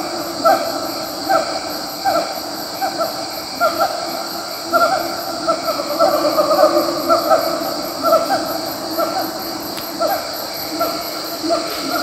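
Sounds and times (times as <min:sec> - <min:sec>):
pulsing insect drone: 0:00.0 - 0:12.0.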